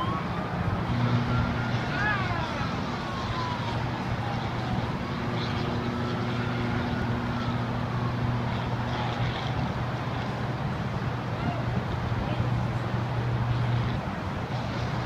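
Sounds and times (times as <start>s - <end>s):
distant city traffic: 0.0s - 15.0s
emergency siren wailing: 0.0s - 15.0s.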